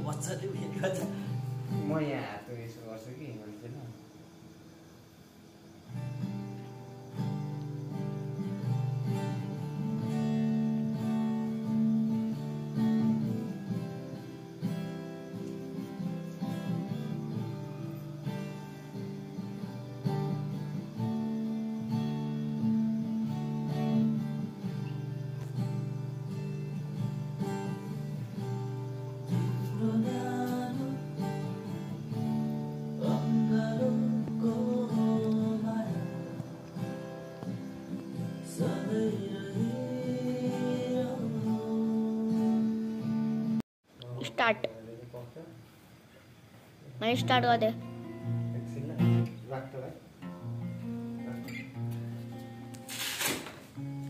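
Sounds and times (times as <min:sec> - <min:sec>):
acoustic guitar strumming: 0:00.0 - 0:04.8, 0:05.4 - 0:43.6, 0:47.0 - 0:54.0.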